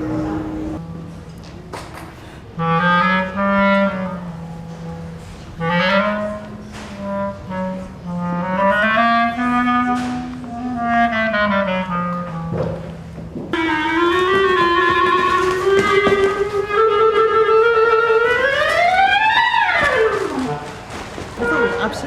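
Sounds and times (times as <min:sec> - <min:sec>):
clarinet-like wind instrument melody: 0:02.4 - 0:22.0.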